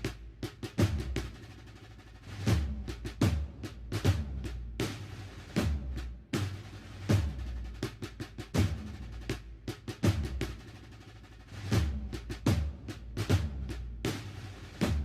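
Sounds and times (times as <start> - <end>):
snare drum strokes: 0.0 - 15.0.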